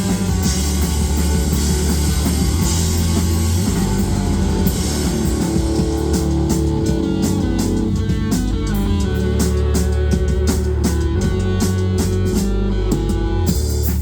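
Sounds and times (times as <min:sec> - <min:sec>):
drum and cymbal hits: 0:00.0 - 0:14.0
rock band playing: 0:00.0 - 0:14.0.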